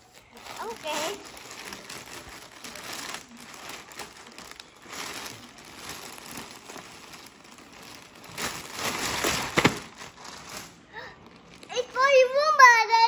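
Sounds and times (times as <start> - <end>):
packaging rustling and crinkling: 0.0 - 12.6.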